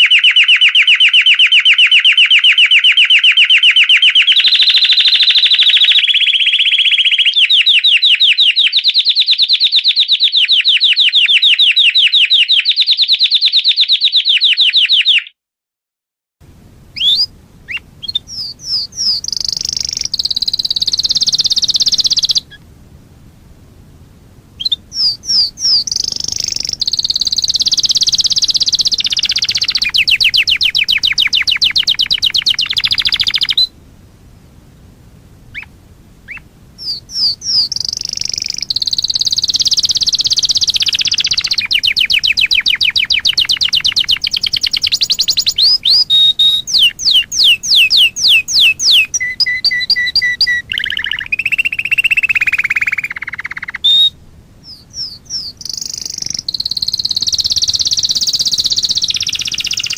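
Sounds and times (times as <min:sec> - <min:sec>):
canary singing trills: 0:00.0 - 0:15.3, 0:16.7 - 0:22.7, 0:23.6 - 0:33.8, 0:35.4 - 0:59.9.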